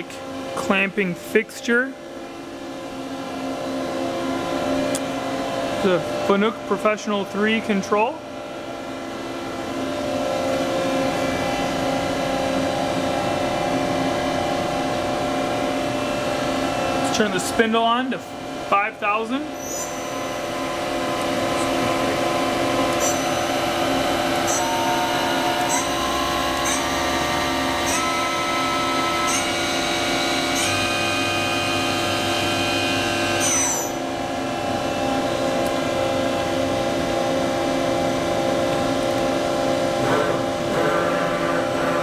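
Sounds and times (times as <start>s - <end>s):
machine hum: 0.0s - 42.0s.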